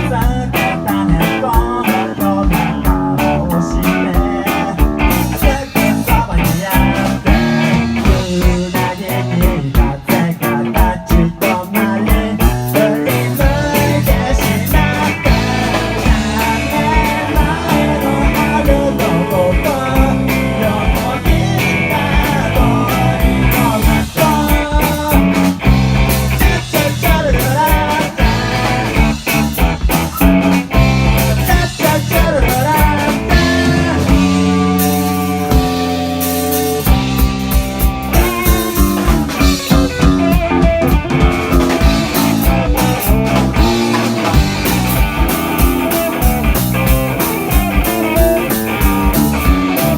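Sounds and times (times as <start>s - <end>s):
bass guitar: 0.0s - 49.9s
electric guitar: 0.0s - 49.9s
steady drum beat: 0.0s - 49.9s.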